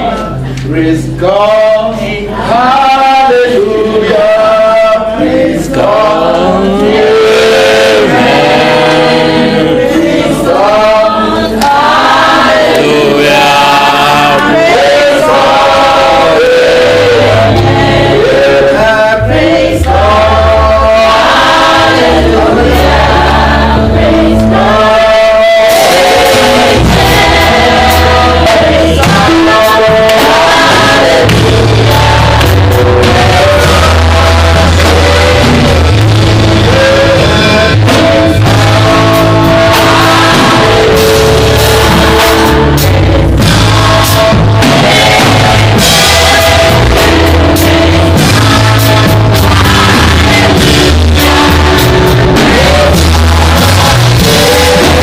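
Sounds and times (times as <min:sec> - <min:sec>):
live band with bass and drums: 0:00.0 - 0:55.0
voices singing: 0:00.0 - 0:55.0.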